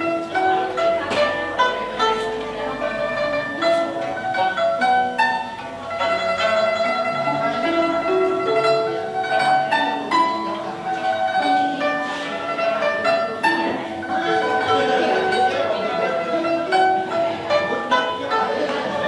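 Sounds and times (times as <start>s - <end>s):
plucked string melody: 0.0s - 19.0s
sustained accompaniment: 0.0s - 19.0s.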